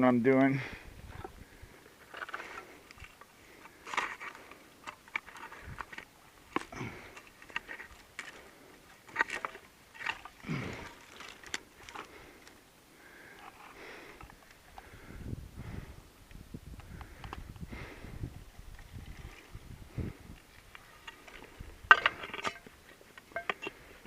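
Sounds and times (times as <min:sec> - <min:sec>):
man breathing and sniffing: 0:00.6 - 0:16.2, 0:16.8 - 0:21.8.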